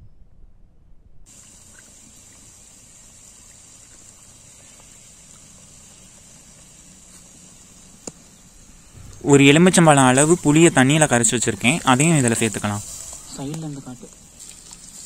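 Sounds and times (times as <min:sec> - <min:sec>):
insects droning: 0:01.3 - 0:15.0
pot bubbling: 0:01.3 - 0:15.0.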